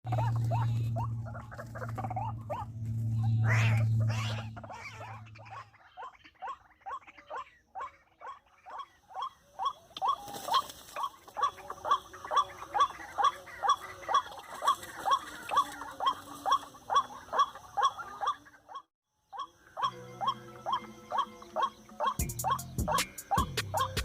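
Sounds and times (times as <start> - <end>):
waterhen calling: 0.1 - 24.0.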